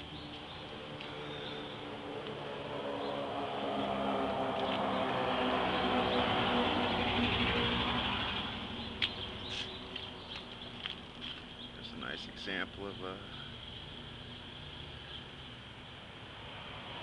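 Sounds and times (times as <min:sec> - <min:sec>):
passing engine hum: 0:00.0 - 0:17.0.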